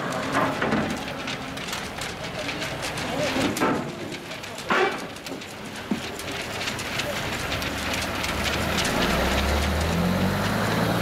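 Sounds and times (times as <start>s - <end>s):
large vehicle engine rumbling: 0.0s - 11.0s.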